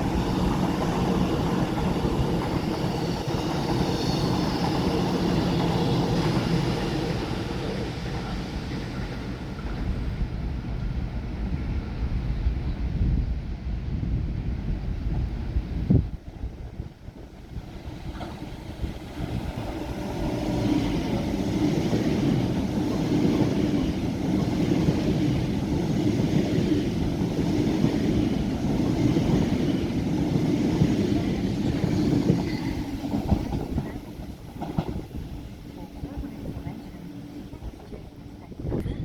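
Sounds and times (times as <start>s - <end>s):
train running on rails: 0.0s - 39.0s.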